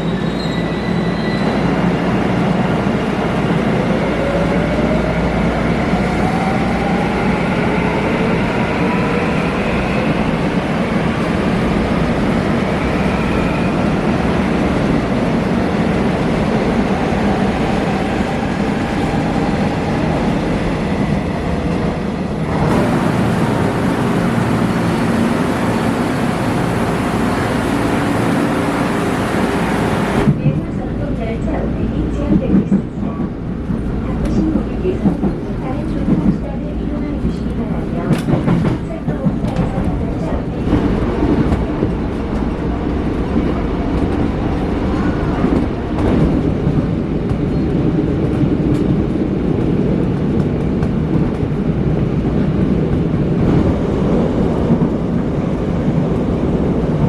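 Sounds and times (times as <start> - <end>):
electric train rumbling: 0.0 - 57.0.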